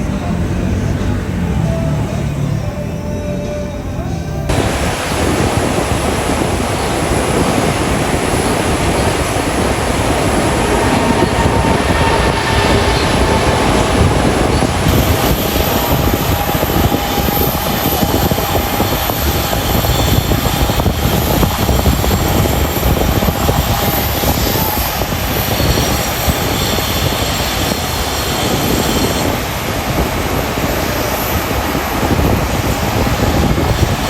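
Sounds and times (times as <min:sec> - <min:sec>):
faint engine whine: 0:00.0 - 0:34.0
jet engines roaring: 0:04.5 - 0:34.0.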